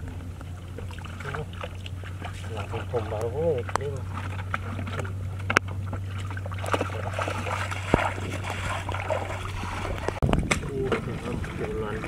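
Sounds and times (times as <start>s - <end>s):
floodwater sloshing around feet: 0.0s - 12.0s
steady low hum: 0.0s - 12.0s.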